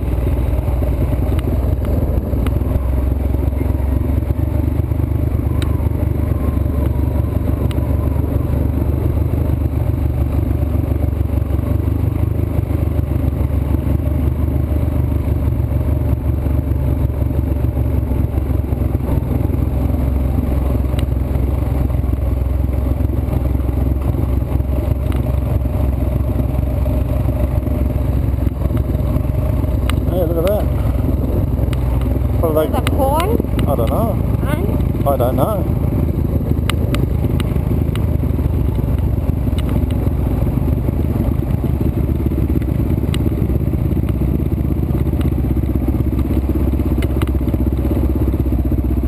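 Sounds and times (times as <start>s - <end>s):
motorcycle engine rumbling: 0.0s - 49.0s.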